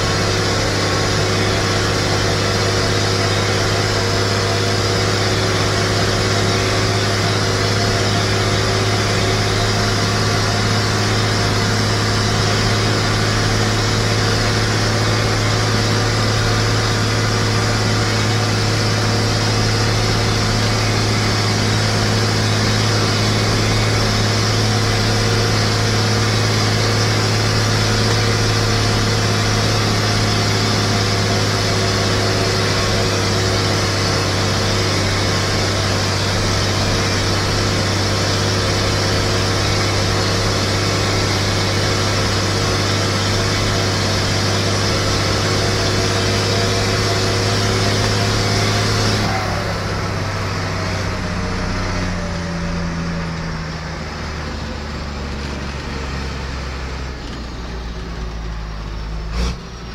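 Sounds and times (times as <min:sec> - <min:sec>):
road and wind noise: 0:00.0 - 0:59.9
tractor diesel engine drone: 0:00.0 - 0:59.9.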